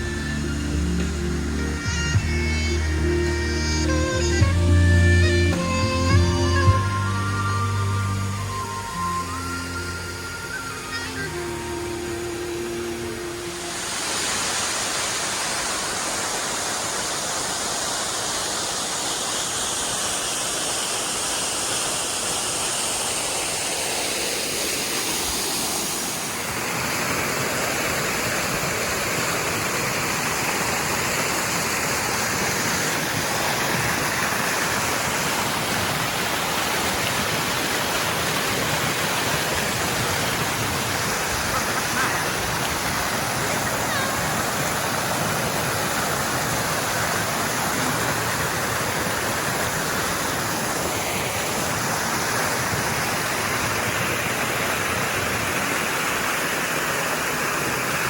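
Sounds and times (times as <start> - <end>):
waterfall pouring: 8.5 - 58.0.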